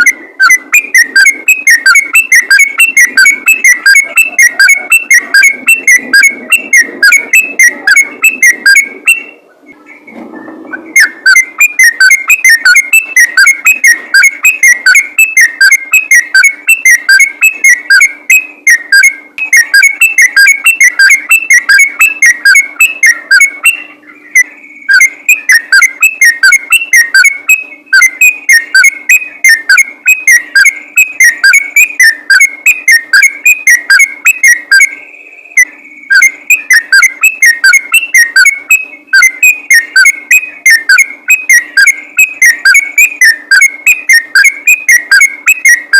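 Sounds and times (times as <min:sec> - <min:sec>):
bird singing whistled chatter: 0:00.0 - 0:45.9.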